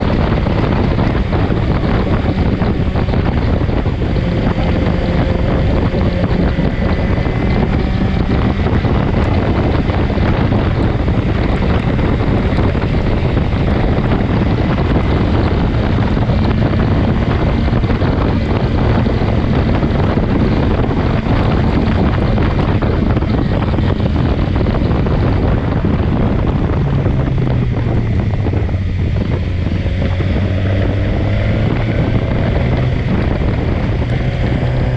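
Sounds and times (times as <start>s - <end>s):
motorcycle engine drone: 0.0s - 34.9s
wind rushing over microphone: 0.0s - 34.9s.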